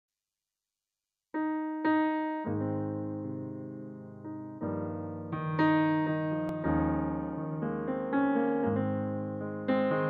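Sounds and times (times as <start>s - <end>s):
keyboard piano notes and chords: 1.4s - 10.0s.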